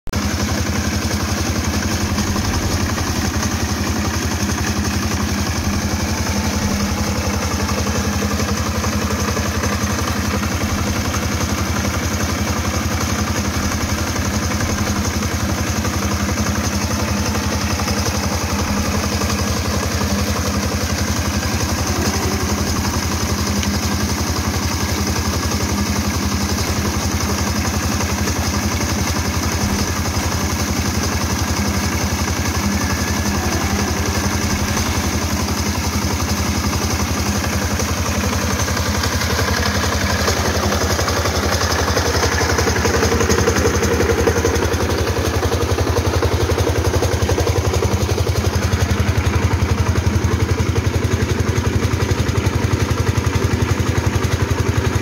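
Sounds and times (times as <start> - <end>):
diesel engine chugging: 0.2 - 55.0
water gushing from pipe: 0.2 - 55.0.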